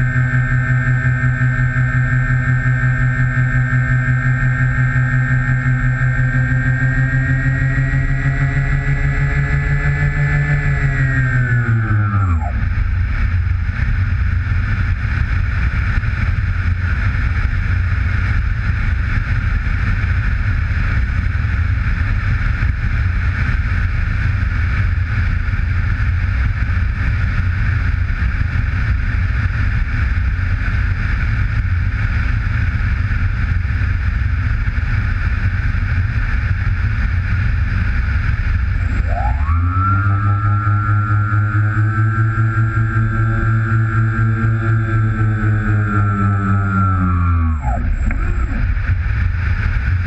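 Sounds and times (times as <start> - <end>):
wind and airframe noise: 0.0 - 50.0.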